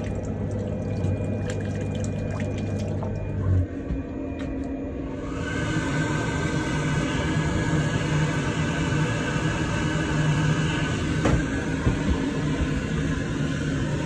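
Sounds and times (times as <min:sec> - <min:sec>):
electric train hum and rumble: 0:00.0 - 0:14.0.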